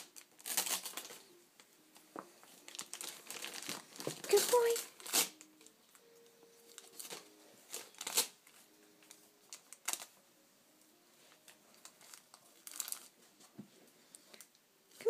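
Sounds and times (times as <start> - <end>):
tissue paper crinkling: 0.0 - 1.4, 2.2 - 10.2, 11.2 - 14.5.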